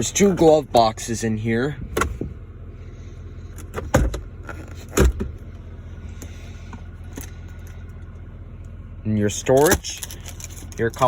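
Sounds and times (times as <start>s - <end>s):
low hum in vehicle cab: 0.0s - 11.0s.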